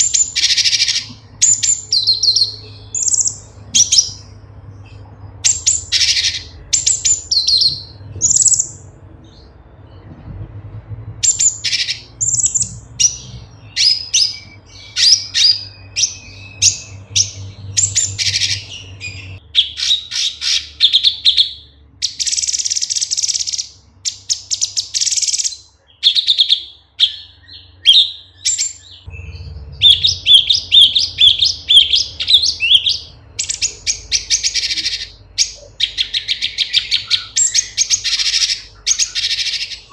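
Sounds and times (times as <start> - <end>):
bird chirping and whistling: 0.0 - 4.3, 4.9 - 10.0, 11.2 - 39.9.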